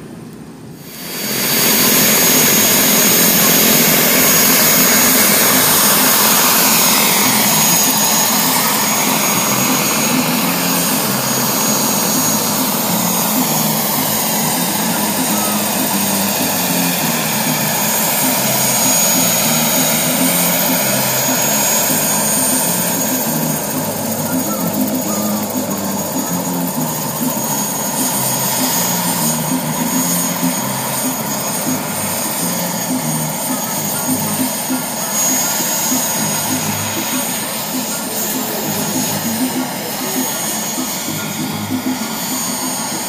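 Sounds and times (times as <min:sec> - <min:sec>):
model helicopter flying: 0:00.0 - 0:43.0.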